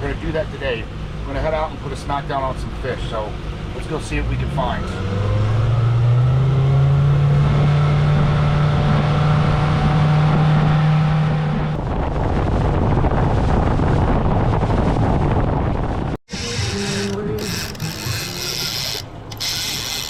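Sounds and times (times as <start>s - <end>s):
boat engine humming: 0.0s - 12.5s, 15.8s - 20.0s
rush of wind and water: 0.0s - 20.0s.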